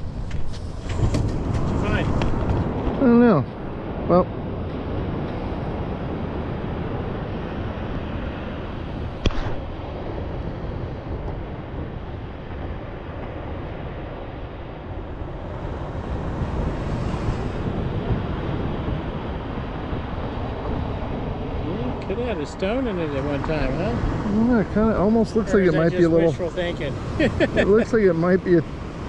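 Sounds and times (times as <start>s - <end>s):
ocean surf: 0.0s - 29.0s
wind buffeting microphone: 0.0s - 29.0s.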